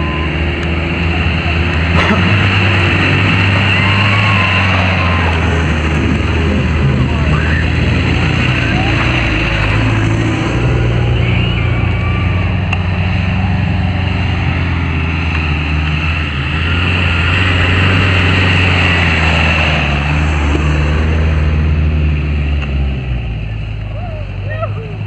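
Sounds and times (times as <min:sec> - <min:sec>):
off-road engine running: 0:00.0 - 0:25.0.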